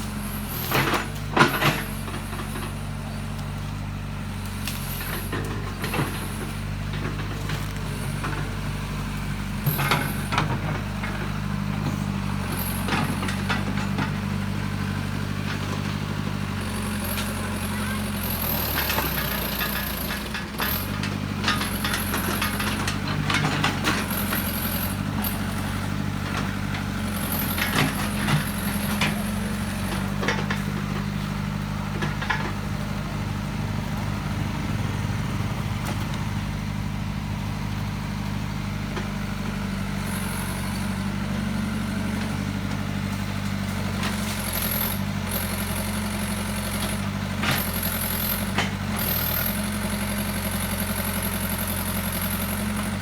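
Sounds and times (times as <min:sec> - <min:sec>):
excavator engine running: 0:00.0 - 0:53.0.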